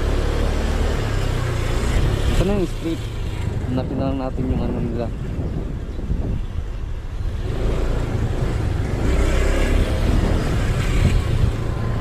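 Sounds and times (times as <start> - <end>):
wind noise on microphone: 1.5 - 12.0.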